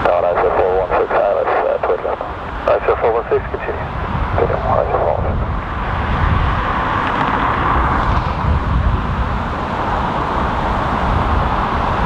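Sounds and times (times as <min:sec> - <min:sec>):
turboprop engine and propeller noise: 0:00.0 - 0:12.0
wind rumbling on microphone: 0:00.0 - 0:12.0.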